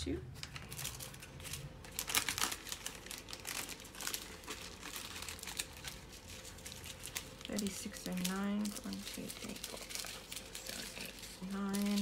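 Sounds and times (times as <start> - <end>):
plastic bags crinkling: 0.4 - 12.0.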